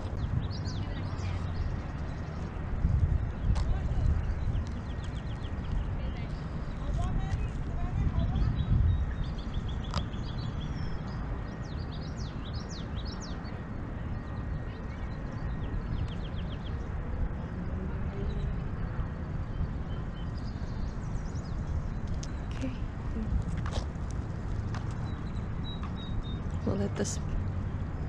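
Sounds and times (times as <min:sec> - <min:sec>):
songbirds chirping and trilling: 0:00.0 - 0:28.0
steady low rumble: 0:00.0 - 0:28.0.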